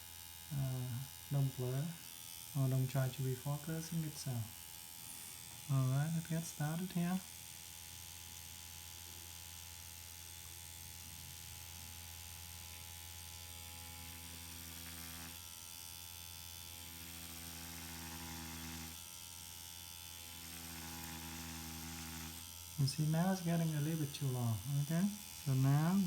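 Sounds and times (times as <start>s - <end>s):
makeup machine buzzing: 0.0s - 26.0s.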